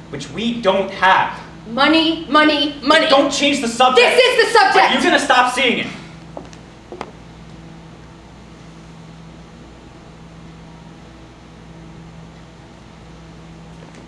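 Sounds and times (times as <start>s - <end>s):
fan hum and hiss: 0.0s - 14.0s.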